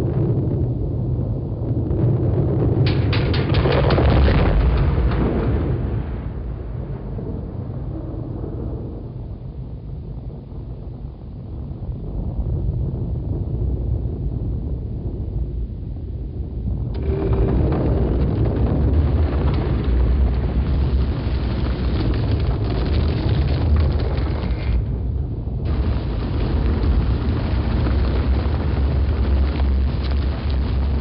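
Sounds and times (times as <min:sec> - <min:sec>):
heavy boulder rumble: 0:00.0 - 0:31.0.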